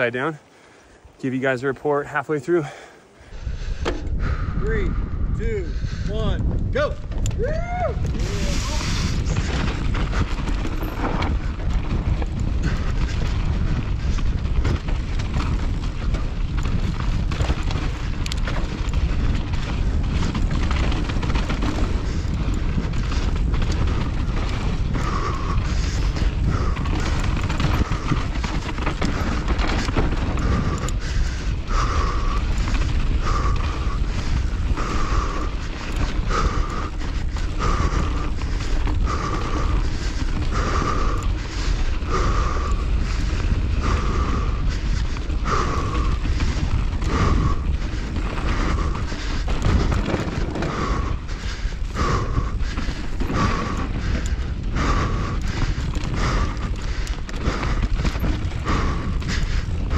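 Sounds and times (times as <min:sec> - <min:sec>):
wind on microphone: 0:03.3 - 0:59.9
bike clattering over rough ground: 0:06.4 - 0:59.9.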